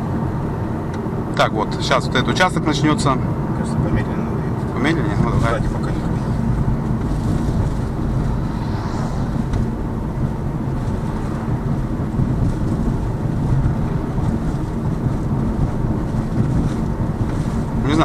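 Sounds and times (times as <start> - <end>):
road and tyre rumble: 0.0 - 18.0.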